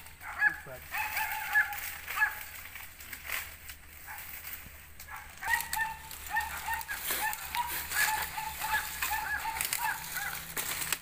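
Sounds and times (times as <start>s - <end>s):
rustling in dry grass: 0.0s - 11.0s.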